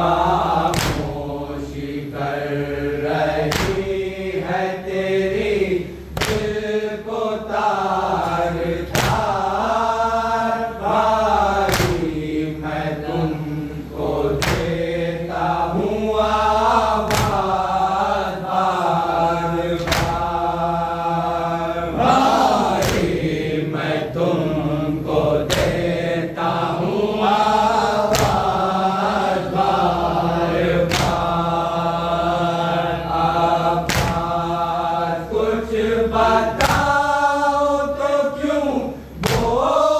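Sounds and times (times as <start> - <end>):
group of voices chanting: 0.0 - 39.9.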